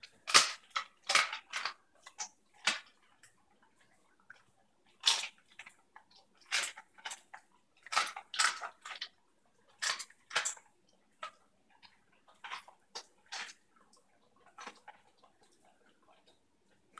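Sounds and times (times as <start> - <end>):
dog chewing and smacking lips: 0.0 - 16.9.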